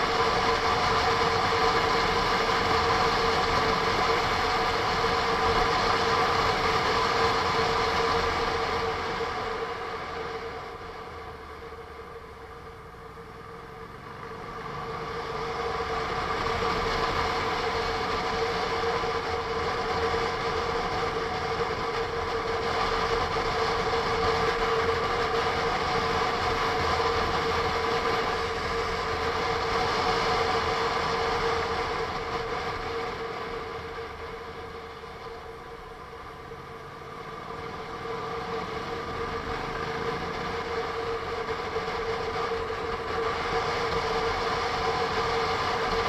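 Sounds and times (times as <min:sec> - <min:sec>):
steady whine: 0:00.0 - 0:46.0.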